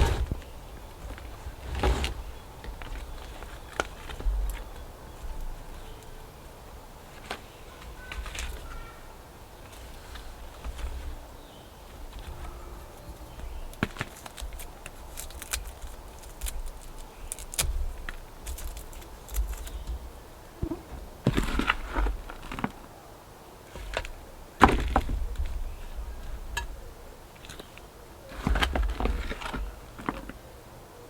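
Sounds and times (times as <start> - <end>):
pots and soil being handled: 0.0 - 22.9, 23.7 - 30.5.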